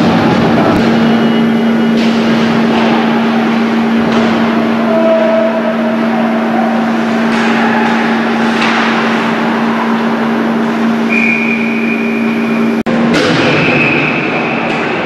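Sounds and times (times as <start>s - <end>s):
ice rink game noise: 0.0s - 15.0s
low hum: 0.0s - 15.0s.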